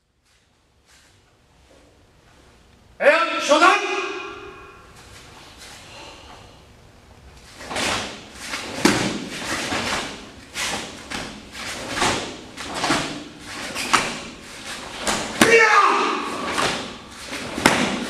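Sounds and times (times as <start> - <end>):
bare feet on foam mats: 0.1 - 2.7, 4.8 - 6.6, 7.4 - 18.0.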